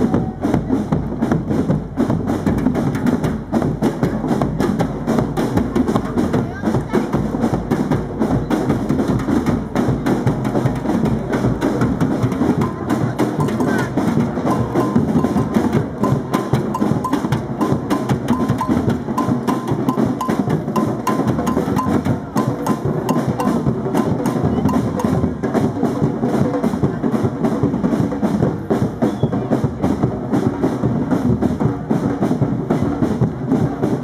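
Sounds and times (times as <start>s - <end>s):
higher-pitched repeated drumbeat: 0.0s - 30.6s
marching drums beating: 0.0s - 34.0s.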